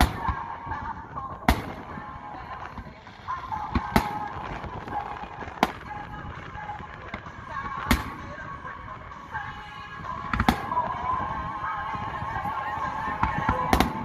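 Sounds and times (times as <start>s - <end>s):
fireworks bursting: 0.0s - 14.0s
music: 0.0s - 14.0s.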